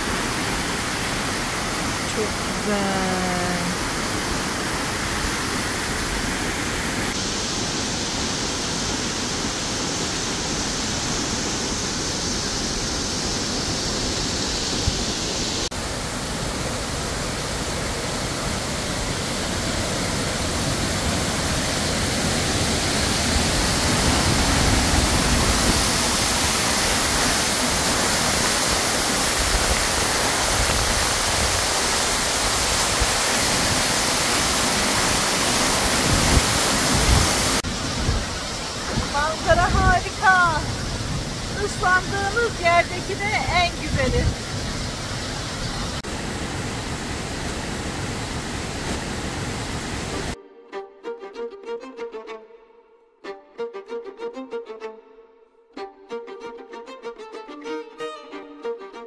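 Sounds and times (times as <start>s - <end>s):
waterfall roaring: 0.0s - 50.4s.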